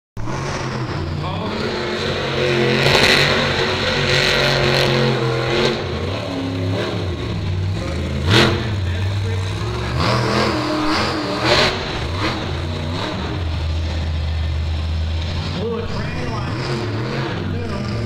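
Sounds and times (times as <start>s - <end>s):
truck engine revving: 0.2s - 18.0s.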